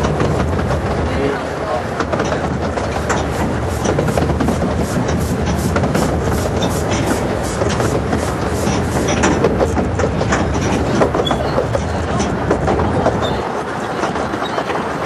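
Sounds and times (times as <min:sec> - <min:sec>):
train wheels rattling on track: 0:00.0 - 0:15.0.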